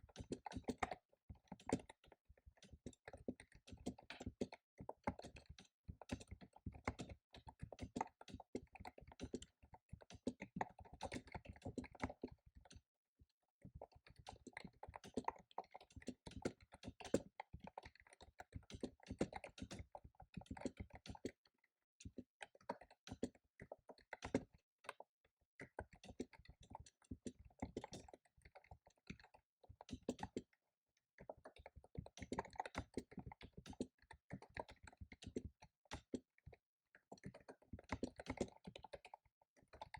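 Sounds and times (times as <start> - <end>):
fast typing on keyboard: 0.0 - 12.8, 13.7 - 21.4, 22.0 - 30.5, 31.2 - 39.9.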